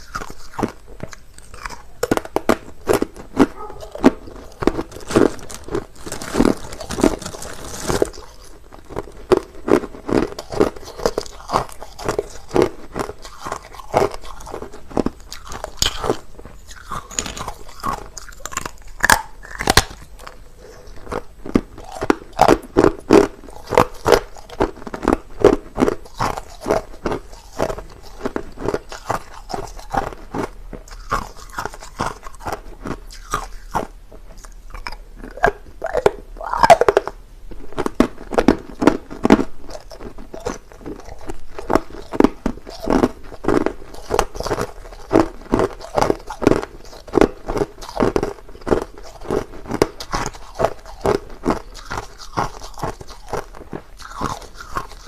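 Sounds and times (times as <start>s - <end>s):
person crunching ice: 0.0s - 33.9s, 37.8s - 55.0s.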